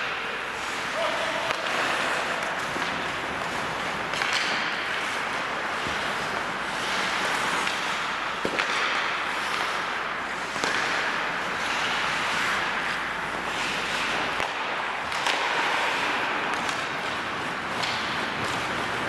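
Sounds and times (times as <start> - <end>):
skates scraping on ice: 0.0 - 19.0
sticks clacking on puck: 0.0 - 19.0.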